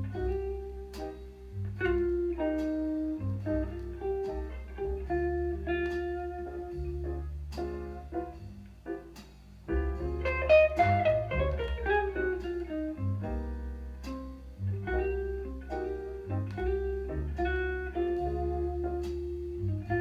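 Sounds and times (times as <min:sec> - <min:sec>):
bass line: 0:00.0 - 0:20.0.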